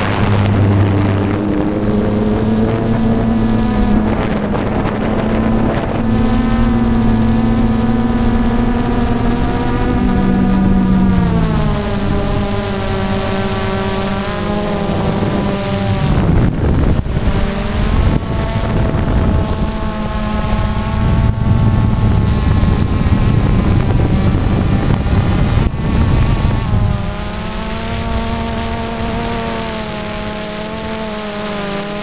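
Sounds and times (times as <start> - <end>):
drone propellers whining: 0.0 - 32.0
rushing wind noise: 0.0 - 32.0.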